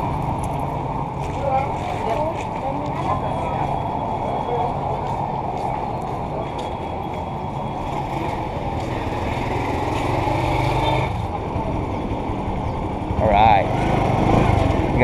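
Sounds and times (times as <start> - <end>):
engine hum: 0.0 - 15.0
traffic noise: 0.0 - 15.0.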